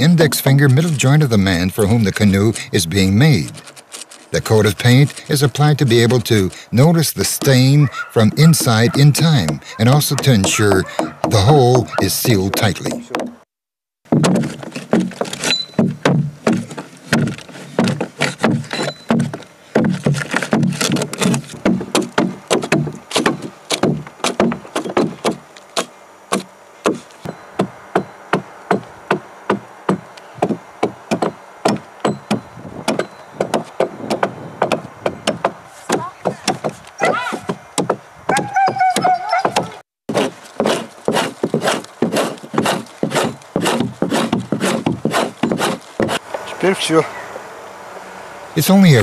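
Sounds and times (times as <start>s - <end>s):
blade chipping into wood: 1.9s - 13.4s, 14.1s - 46.2s.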